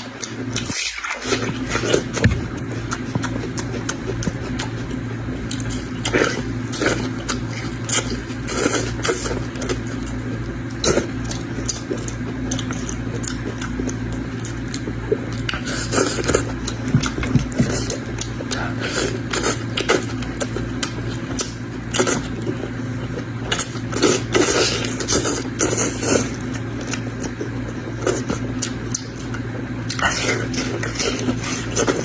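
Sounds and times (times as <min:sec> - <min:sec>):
person biting and chewing: 0:00.0 - 0:32.0
steady low hum: 0:00.0 - 0:32.0.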